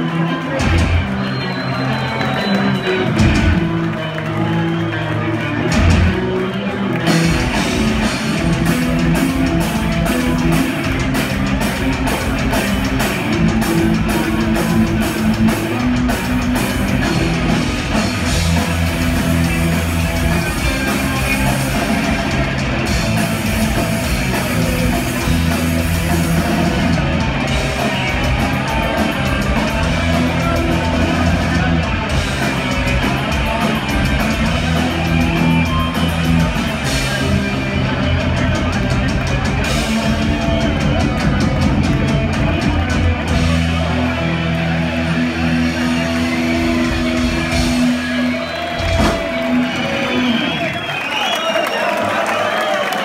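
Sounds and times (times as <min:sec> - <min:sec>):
live punk rock band: 0:00.0 - 0:53.0.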